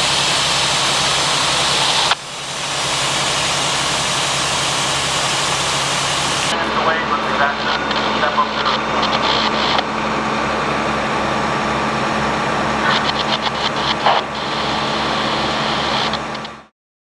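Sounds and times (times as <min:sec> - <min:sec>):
fire engine running: 0:00.0 - 0:16.7.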